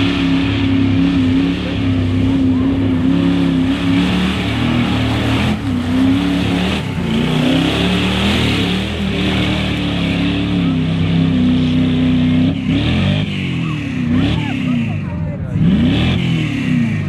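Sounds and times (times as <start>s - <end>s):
tires churning through mud: 0.0s - 17.0s
truck engine revving hard: 0.0s - 17.0s.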